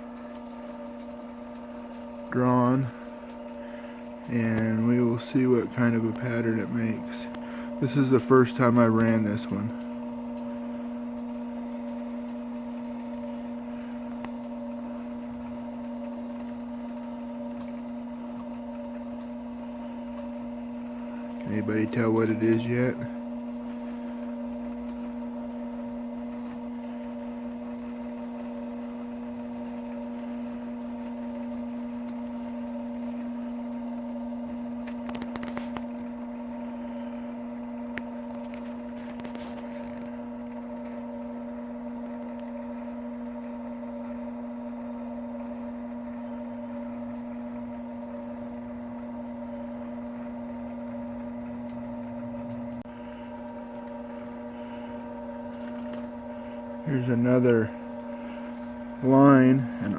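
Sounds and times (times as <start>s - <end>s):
lathe motor humming: 0.0s - 59.9s.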